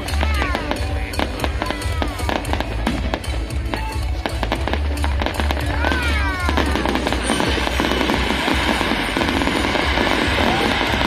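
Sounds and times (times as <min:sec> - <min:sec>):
fireworks bangs and crackles: 0:00.0 - 0:11.0
music: 0:00.0 - 0:11.0.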